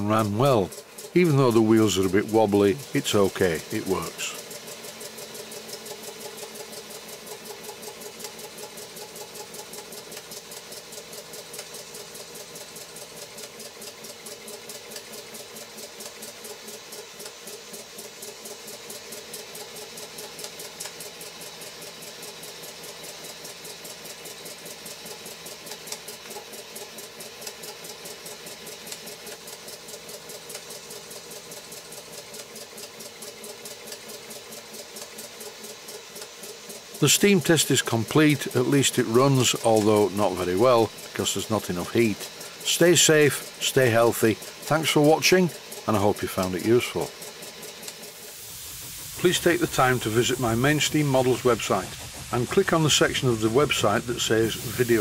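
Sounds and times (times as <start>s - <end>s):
steam hissing: 0.0s - 55.0s
toy steam engine running: 0.0s - 55.0s.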